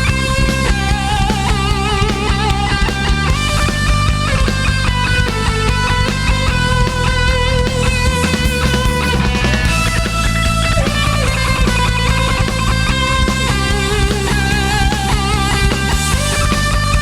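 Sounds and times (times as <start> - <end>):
bass and drums: 0.0 - 17.0
electric guitar lead notes: 0.0 - 17.0.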